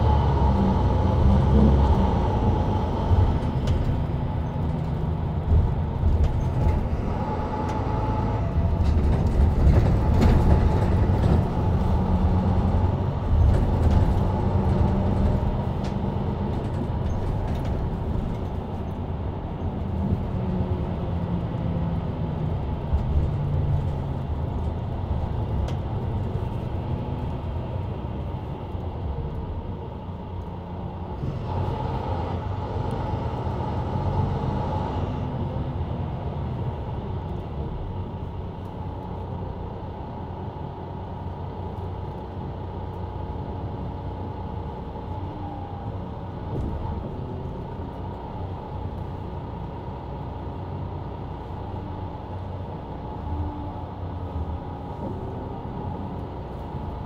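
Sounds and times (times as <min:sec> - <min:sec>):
bus diesel engine humming: 0:00.0 - 0:57.0
road and tyre noise: 0:00.0 - 0:57.0.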